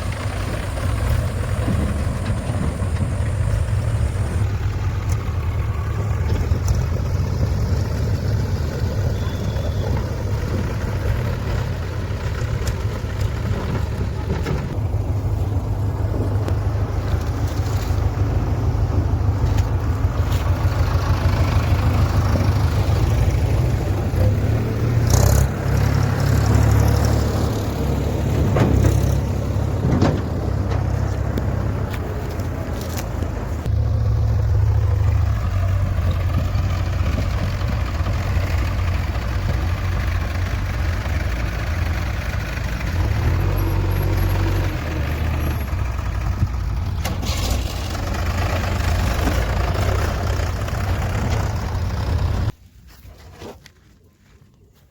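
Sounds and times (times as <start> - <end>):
diesel engine droning: 0.0 - 52.6.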